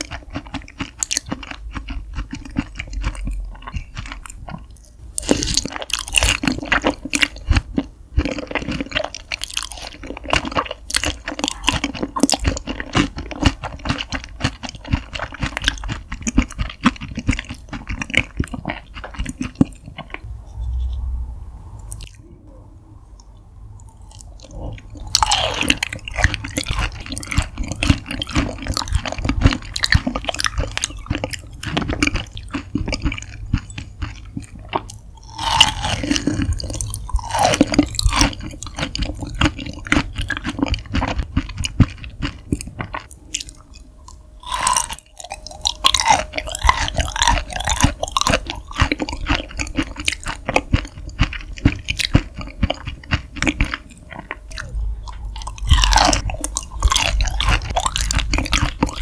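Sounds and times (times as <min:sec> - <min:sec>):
wet chewing of raw meat: 0:00.0 - 0:20.3, 0:23.8 - 0:59.0.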